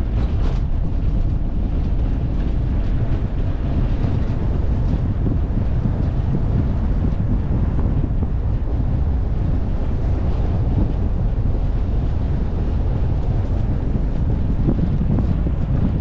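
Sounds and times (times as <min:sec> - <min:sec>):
vehicle rumble on dirt road: 0:00.0 - 0:16.0
wind buffeting microphone: 0:00.0 - 0:16.0.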